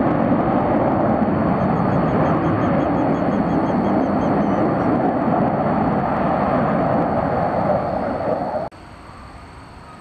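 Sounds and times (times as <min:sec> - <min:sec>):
distant jet roar: 0:00.0 - 0:10.0.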